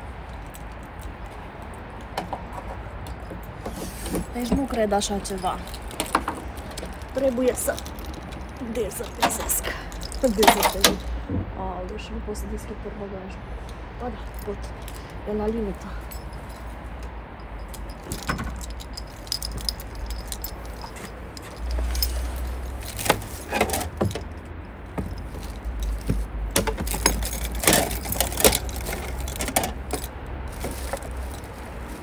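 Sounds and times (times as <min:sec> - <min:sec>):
items clattering and jangling: 0:02.2 - 0:11.2, 0:14.3 - 0:32.0.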